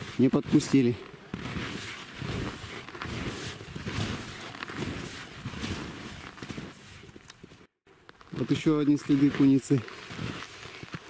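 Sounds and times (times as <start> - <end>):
footsteps crunching through snow: 0.0 - 11.0.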